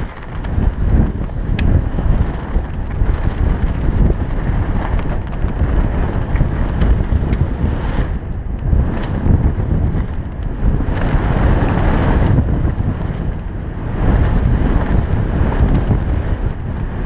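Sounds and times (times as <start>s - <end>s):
bike clicks and rattles: 0.0s - 17.0s
tyres rumbling on dirt: 0.0s - 17.0s
wind buffeting microphone: 0.0s - 17.0s.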